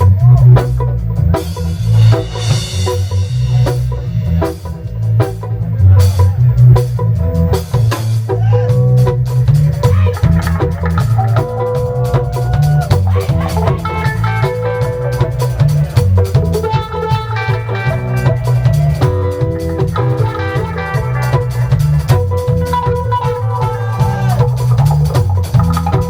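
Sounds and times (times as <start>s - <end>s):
bass line: 0.0s - 26.0s
reggae band playing: 0.0s - 26.0s.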